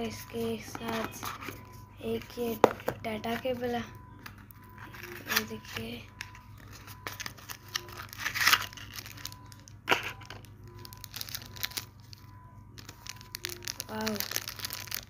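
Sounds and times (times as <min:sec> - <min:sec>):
packaging rustling and crinkling: 0:02.4 - 0:15.0.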